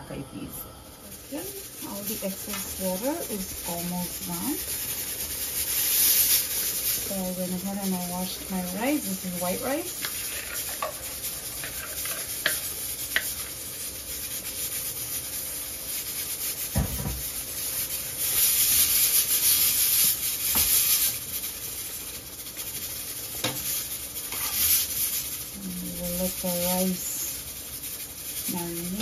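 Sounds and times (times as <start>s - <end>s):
spatula stirring and scraping pot: 1.0s - 29.0s.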